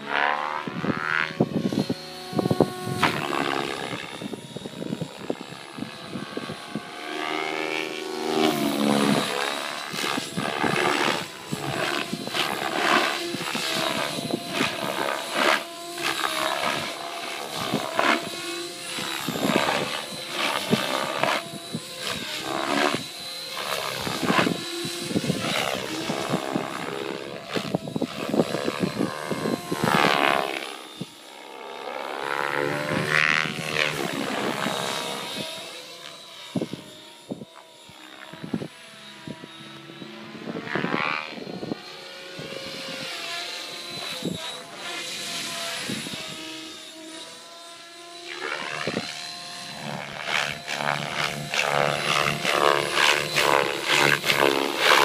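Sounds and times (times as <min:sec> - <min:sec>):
electric motor whining: 0:00.0 - 0:55.0
helicopter rotor blades whooshing: 0:00.0 - 0:55.0.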